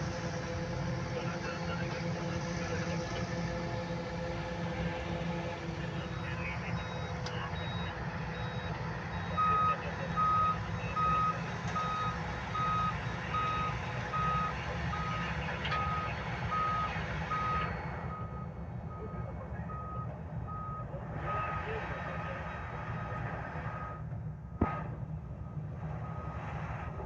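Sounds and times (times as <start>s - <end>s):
diesel engine running: 0.0s - 27.0s
reversing alarm beeping: 5.3s - 27.0s.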